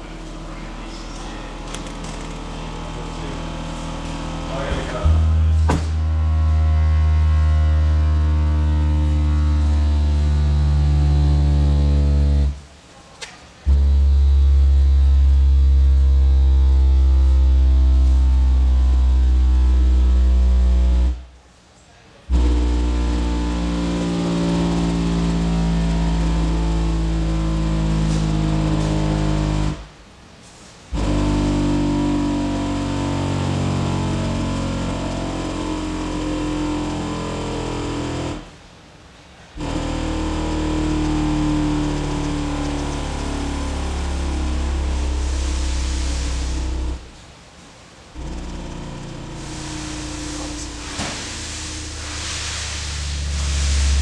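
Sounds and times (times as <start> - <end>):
distorted low-frequency sweep: 0.0 - 12.8, 13.6 - 21.5, 22.2 - 30.0, 30.8 - 38.7, 39.5 - 54.0
subwoofer low bass tone: 0.0 - 12.8, 13.6 - 21.4, 22.2 - 30.0, 30.9 - 38.7, 39.5 - 54.0.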